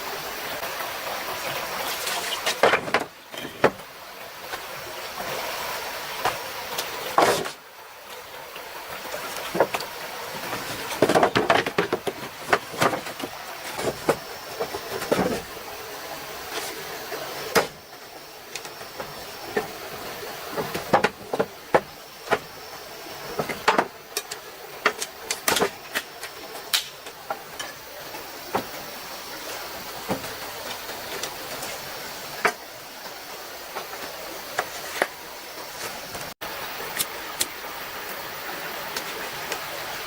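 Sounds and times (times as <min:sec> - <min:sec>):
stream rushing: 0:00.0 - 0:40.0.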